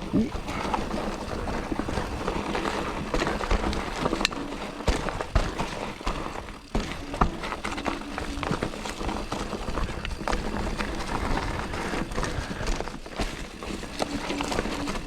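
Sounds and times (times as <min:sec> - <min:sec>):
bike tyres on dirt trail: 0:00.0 - 0:15.0.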